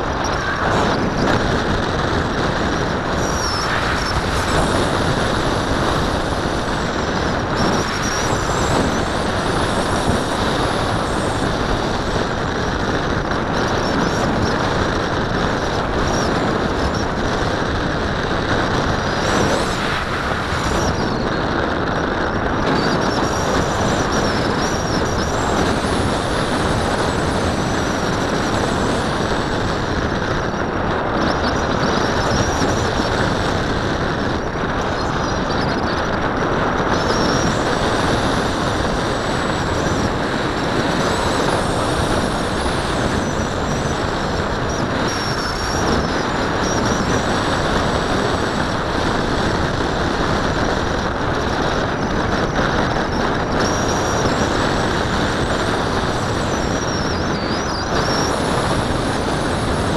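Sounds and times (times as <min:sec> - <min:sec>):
wind rushing over camera: 0:00.0 - 0:59.9.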